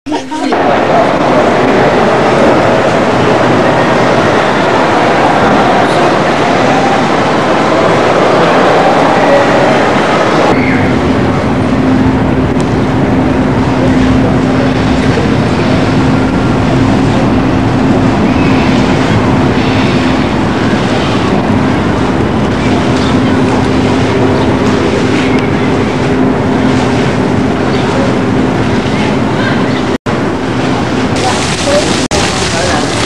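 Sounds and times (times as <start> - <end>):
low steady hum: 0.1 - 33.0.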